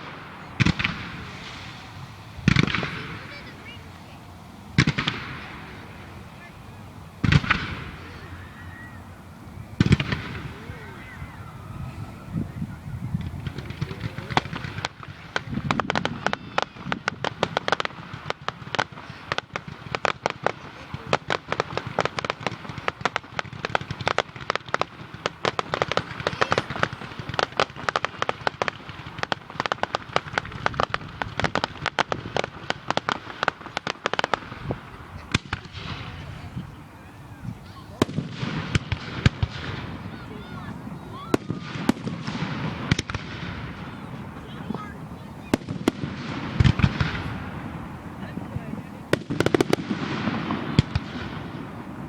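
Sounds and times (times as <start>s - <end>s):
fireworks popping and crackling: 0.0s - 52.0s.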